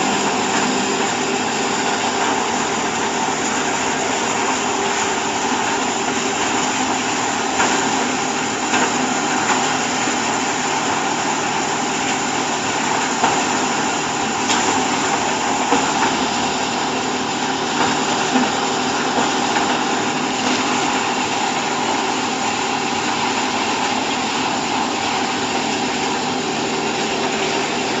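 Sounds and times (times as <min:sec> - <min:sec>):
baler machine hum: 0:00.0 - 0:28.0.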